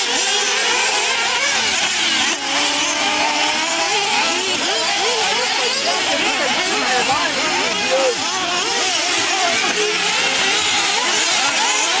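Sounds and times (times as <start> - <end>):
rc car engines revving and whining: 0.0 - 12.0.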